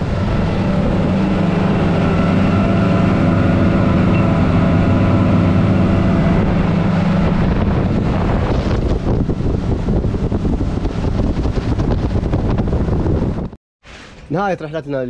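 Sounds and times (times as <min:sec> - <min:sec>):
water rushing from wake: 0:00.0 - 0:12.2
outboard motors droning: 0:00.0 - 0:13.2.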